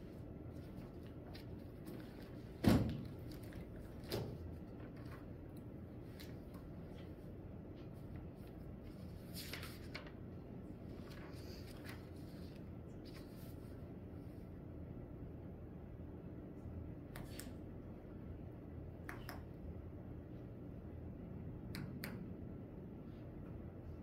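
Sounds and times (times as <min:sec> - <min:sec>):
room hum: 0:00.0 - 0:24.0.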